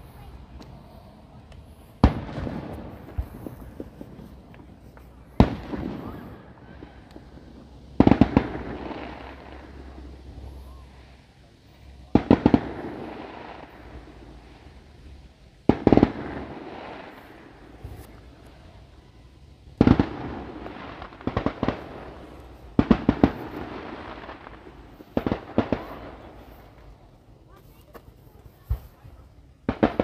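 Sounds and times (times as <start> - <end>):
fireworks bursting with bangs: 0.0 - 30.0.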